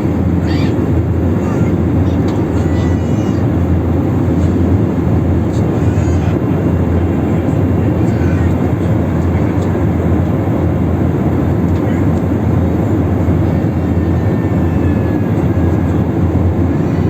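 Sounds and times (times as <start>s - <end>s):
airplane cabin engine noise: 0.0s - 17.0s.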